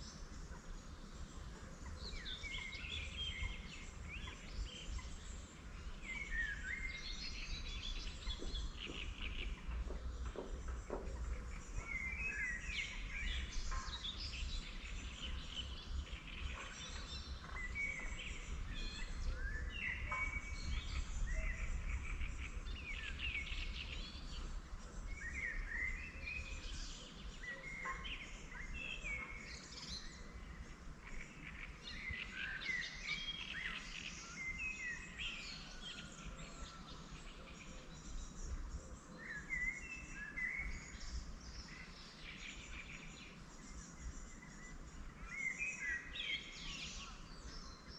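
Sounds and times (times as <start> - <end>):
songbirds singing and chirping: 0.0 - 47.9.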